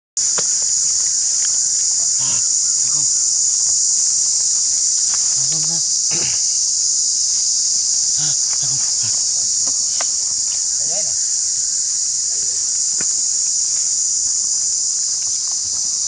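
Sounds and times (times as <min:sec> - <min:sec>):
insect chorus drone: 0:00.2 - 0:16.0.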